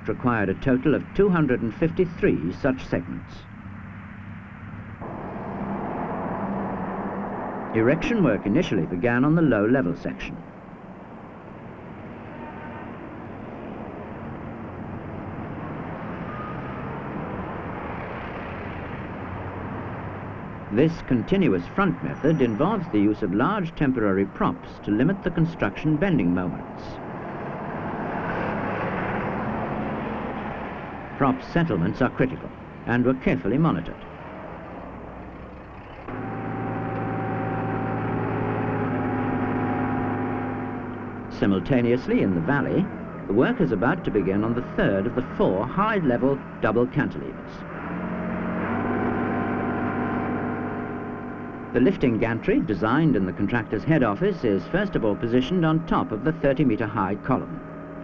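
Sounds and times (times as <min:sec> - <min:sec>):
construction machinery engine drone: 0:00.0 - 0:58.0.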